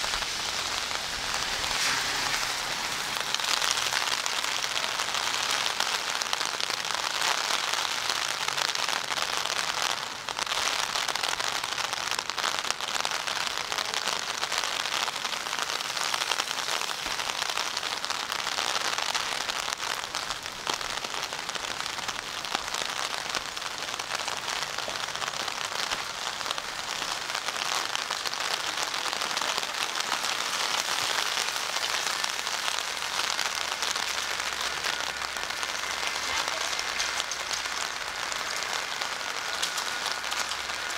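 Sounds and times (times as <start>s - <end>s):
rain on wet pavement: 0.0s - 40.9s.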